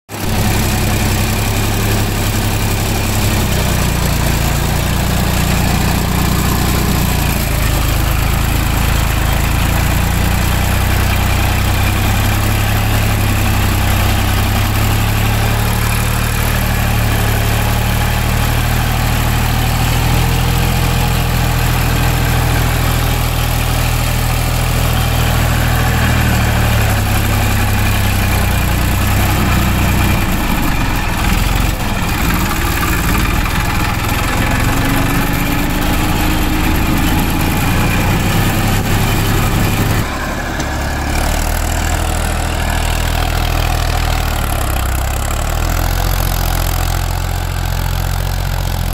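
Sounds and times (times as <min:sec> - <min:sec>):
tractor diesel engine droning: 0:00.1 - 0:48.9.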